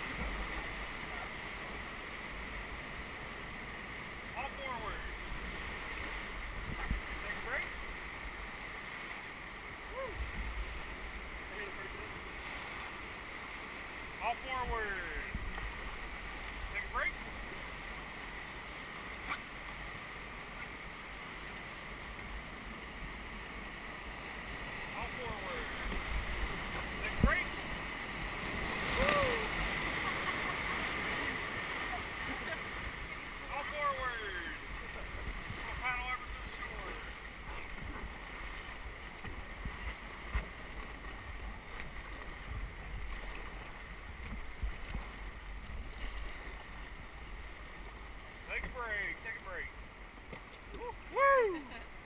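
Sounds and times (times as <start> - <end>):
whitewater rushing: 0.0 - 52.0.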